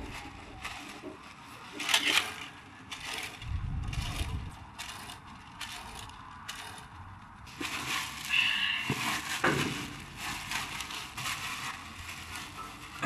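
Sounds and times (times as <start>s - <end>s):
plastic bag rustling and crinkling: 0.0s - 13.0s.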